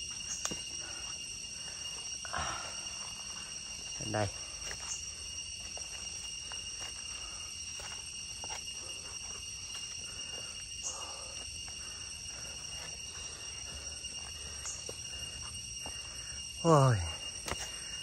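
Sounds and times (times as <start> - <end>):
high-pitched insect trilling: 0.0 - 18.0.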